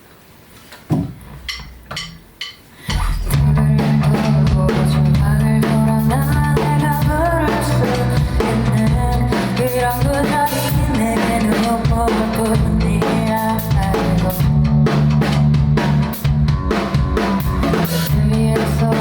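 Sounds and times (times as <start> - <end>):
drum kit kick and snare: 0.9 - 19.0
sustained bass notes: 2.9 - 19.0.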